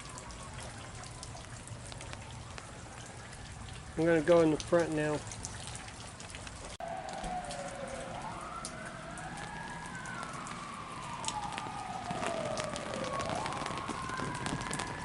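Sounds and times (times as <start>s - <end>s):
emergency siren wailing: 0.0s - 5.1s, 6.8s - 15.0s
heavy rain: 0.0s - 15.0s.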